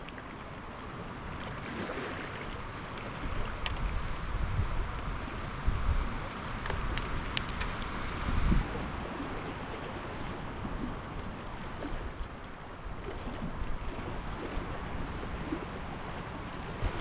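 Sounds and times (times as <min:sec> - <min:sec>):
waves lapping rocky shore: 0:00.0 - 0:17.0
wind buffeting microphone: 0:02.6 - 0:17.0.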